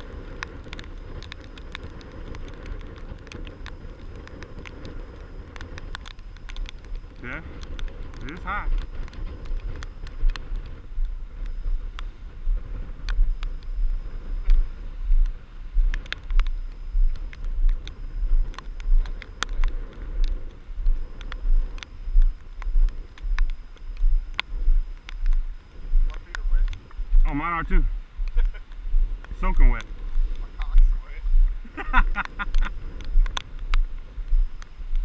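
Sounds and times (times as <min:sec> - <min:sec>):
sharp ticks: 0:00.0 - 0:35.0
wind buffeting microphone: 0:00.0 - 0:35.0.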